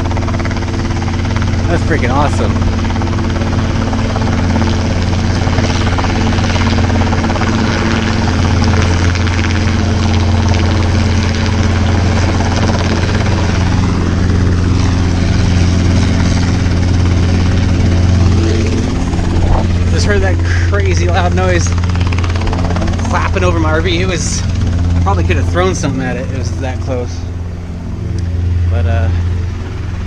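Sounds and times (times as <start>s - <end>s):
helicopter rotor clapping overhead: 0.0s - 30.0s.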